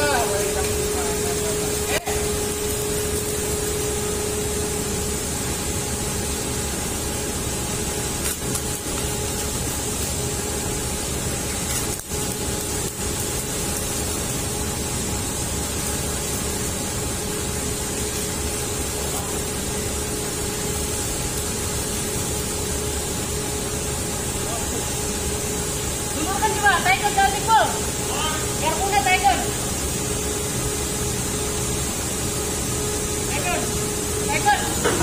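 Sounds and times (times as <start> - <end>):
steady hum: 0.0 - 35.0
welding arc hissing and crackling: 0.0 - 35.0.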